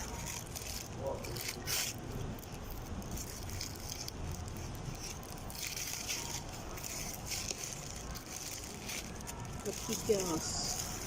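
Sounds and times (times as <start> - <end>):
chewing: 0.0 - 11.0
short crackly bursts: 0.0 - 11.0.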